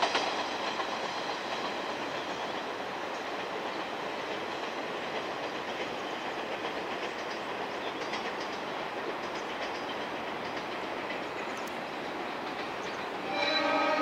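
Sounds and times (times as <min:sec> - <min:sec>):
distant diesel train running: 0:00.0 - 0:14.0
wheels clicking over rail joints: 0:00.0 - 0:14.0.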